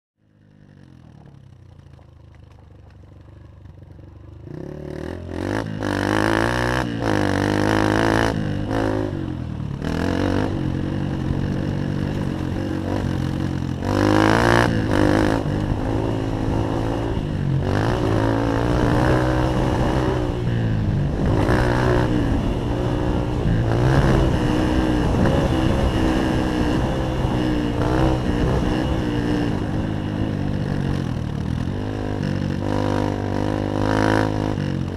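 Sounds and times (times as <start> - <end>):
dirt bike engine revving: 4.4 - 34.9.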